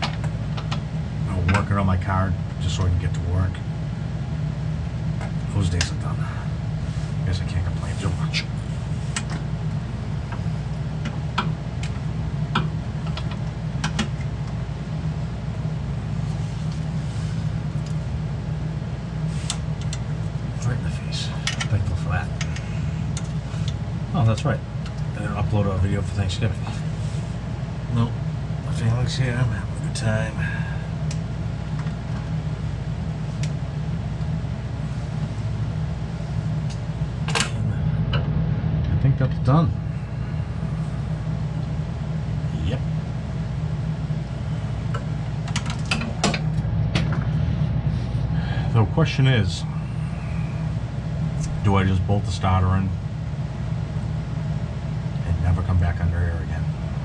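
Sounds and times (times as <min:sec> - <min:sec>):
garage heater humming: 0:00.0 - 0:57.0
low mechanical drone: 0:00.0 - 0:57.0.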